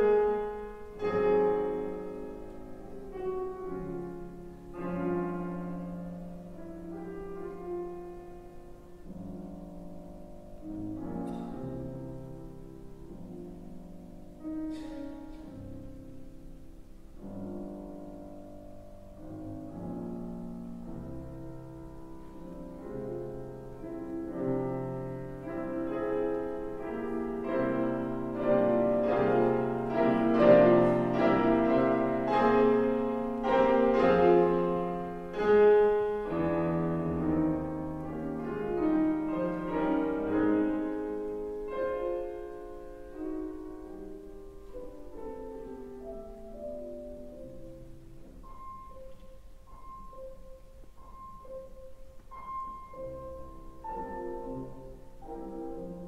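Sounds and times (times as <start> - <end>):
solo piano playing classical piece: 0.0 - 56.0.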